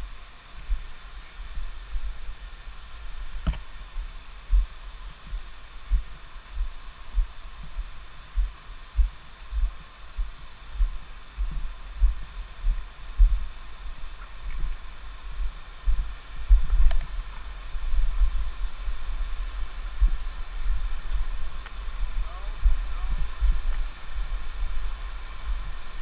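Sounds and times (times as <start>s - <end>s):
river rapids hiss: 0.0s - 26.0s.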